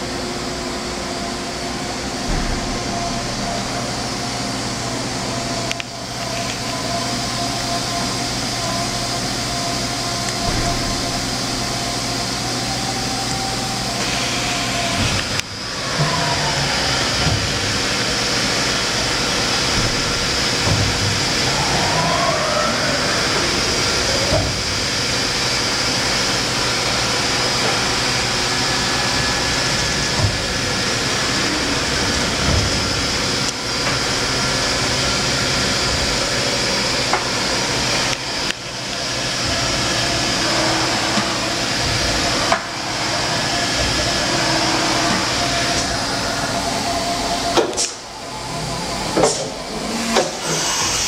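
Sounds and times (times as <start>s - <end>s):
machine running with high whine: 0.0s - 51.0s.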